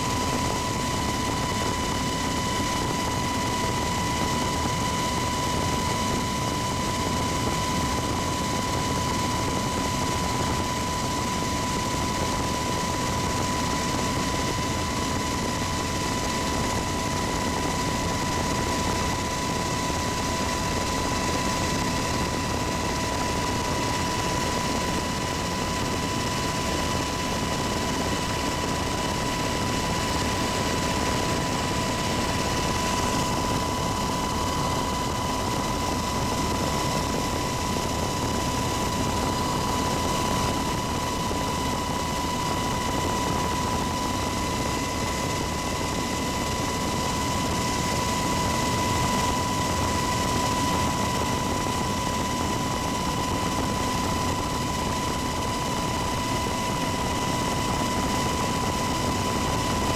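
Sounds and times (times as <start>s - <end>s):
helicopter engine and rotor noise: 0.0s - 59.9s
steady high whine: 0.0s - 59.9s.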